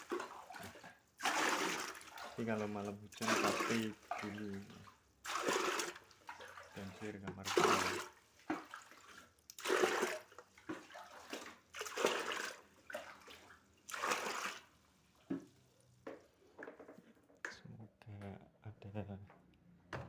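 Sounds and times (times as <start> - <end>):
water scooped and poured: 0.0 - 16.3
small splashes and knocks: 0.0 - 17.6.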